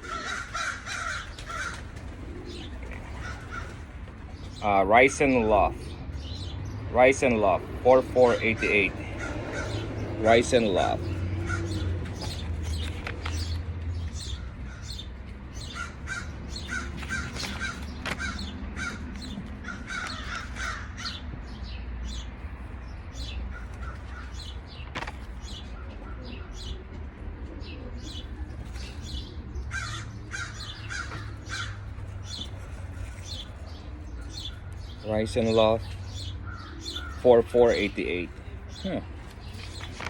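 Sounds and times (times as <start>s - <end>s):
birds calling harshly: 0.0s - 40.0s.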